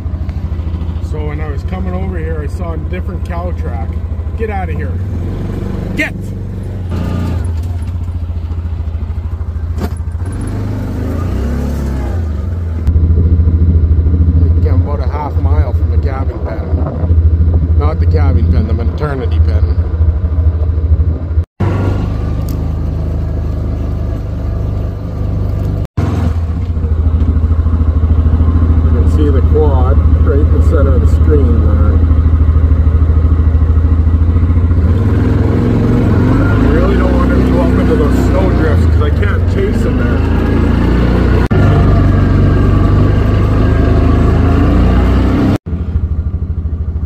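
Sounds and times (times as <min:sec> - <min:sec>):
utility vehicle engine running: 0:00.0 - 0:47.0.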